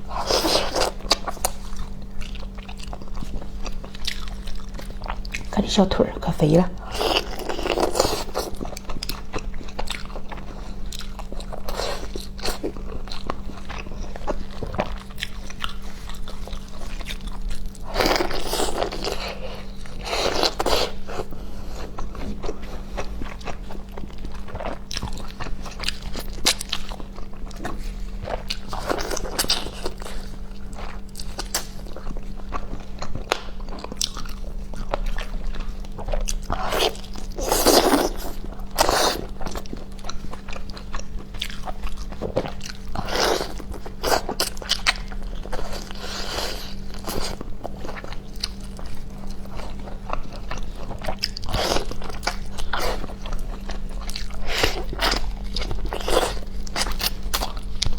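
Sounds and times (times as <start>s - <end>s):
biting and chewing meat: 0.0s - 5.5s, 6.8s - 57.9s
faint steady hum: 0.0s - 57.9s.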